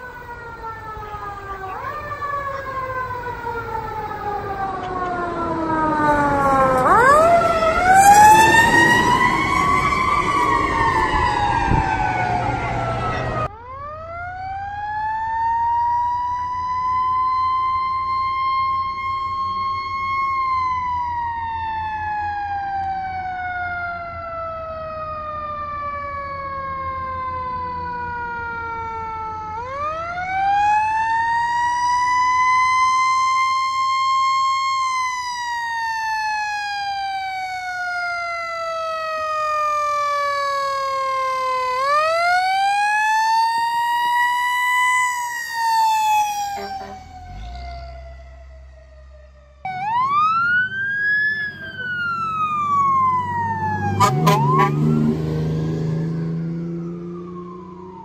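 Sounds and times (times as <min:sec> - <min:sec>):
fire truck sirens wailing: 0:00.0 - 0:58.0
low rumble of trucks: 0:00.0 - 0:58.0.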